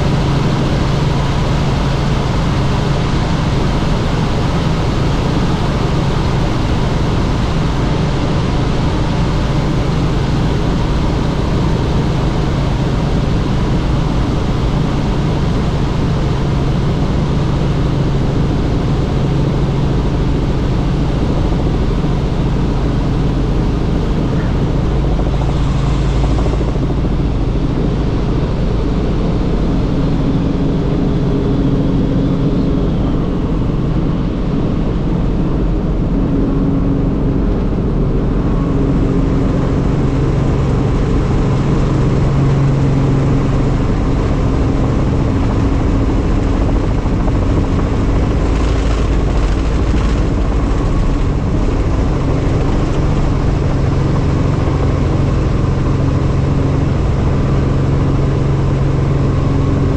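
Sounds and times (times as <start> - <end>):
helicopter rotor and engine noise: 0.0 - 59.9.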